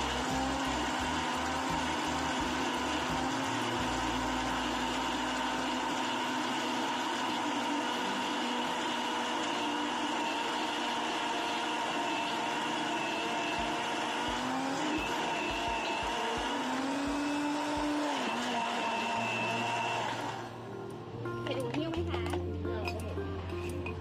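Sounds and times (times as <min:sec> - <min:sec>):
electric blender running: 0:00.0 - 0:24.0.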